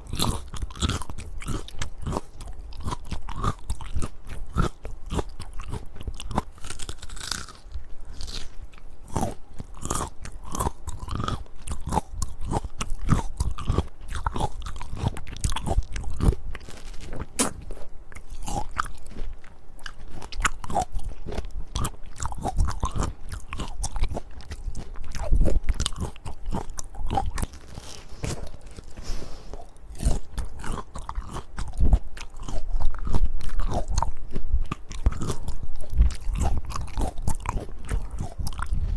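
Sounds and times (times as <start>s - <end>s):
fruit being bitten and chewed: 0.0s - 38.9s.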